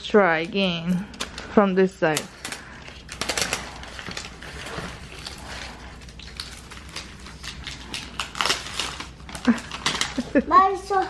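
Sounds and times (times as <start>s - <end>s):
plastic packaging crinkling: 0.8s - 11.0s.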